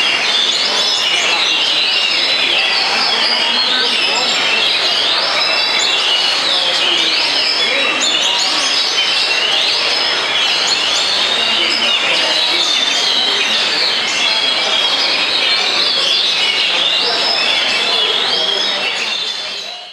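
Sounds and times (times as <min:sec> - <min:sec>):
birds singing whistled notes: 0:00.0 - 0:19.9.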